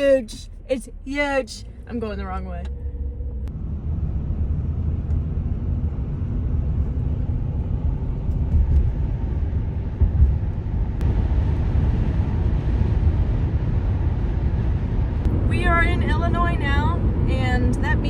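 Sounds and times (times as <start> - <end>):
road and engine rumble: 0.0 - 18.0.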